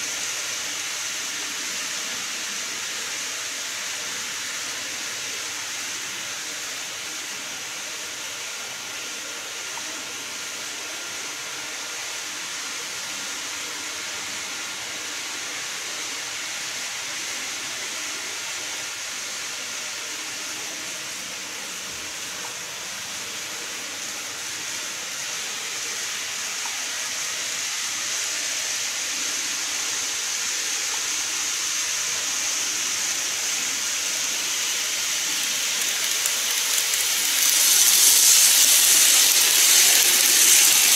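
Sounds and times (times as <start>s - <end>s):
model train hiss: 0.0s - 40.9s.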